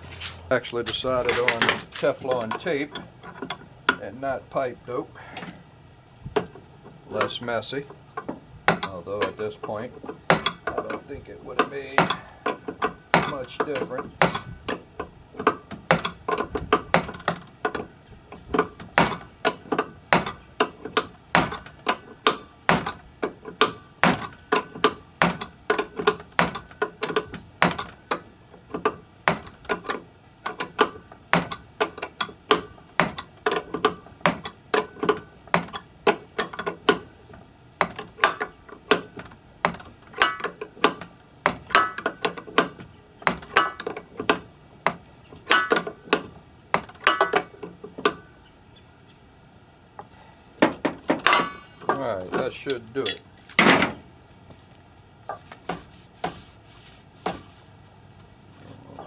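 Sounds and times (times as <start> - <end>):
metallic clicks and knocks: 0.8 - 4.1, 6.3 - 48.6, 50.0 - 54.6.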